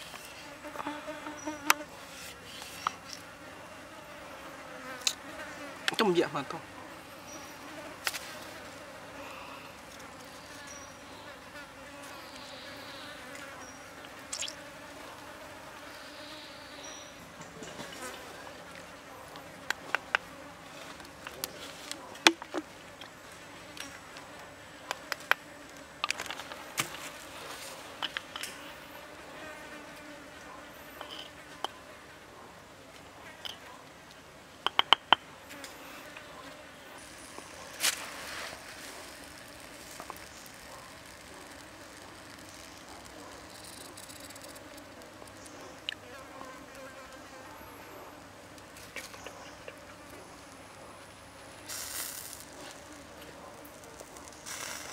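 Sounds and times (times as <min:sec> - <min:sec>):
flying insects buzzing: 0:00.0 - 0:32.2, 0:34.7 - 0:54.9.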